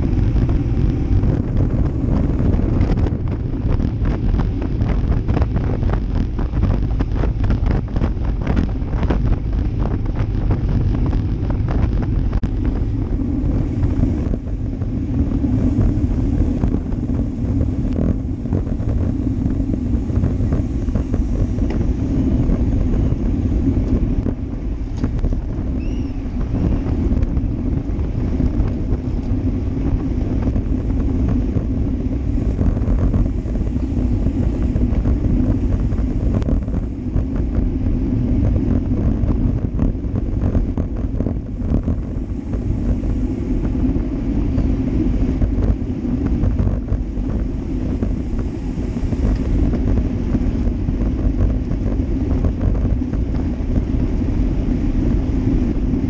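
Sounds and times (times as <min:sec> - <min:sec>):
tyre noise on asphalt: 0:00.0 - 0:56.0
wind rushing over camera: 0:00.0 - 0:56.0.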